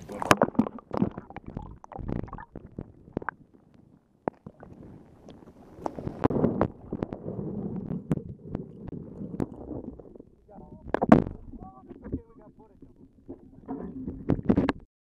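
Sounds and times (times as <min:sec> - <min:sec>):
underwater gurgling and sloshing: 0:00.0 - 0:14.9.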